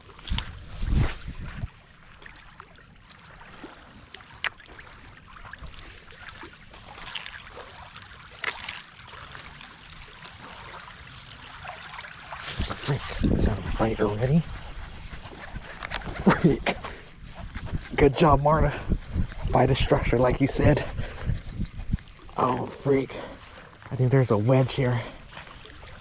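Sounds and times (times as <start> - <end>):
waves lapping on gravel: 0.0 - 26.0.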